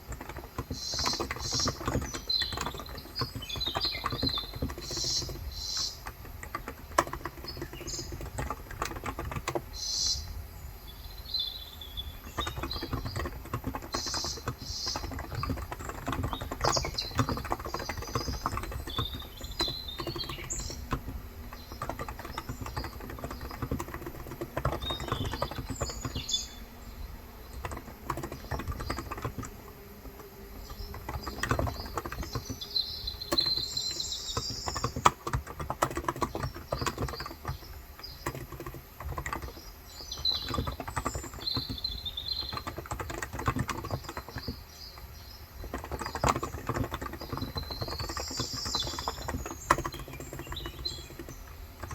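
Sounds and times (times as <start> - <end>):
keyboard typing: 0.0 - 10.4, 12.0 - 51.9
birds chirping: 0.0 - 51.9.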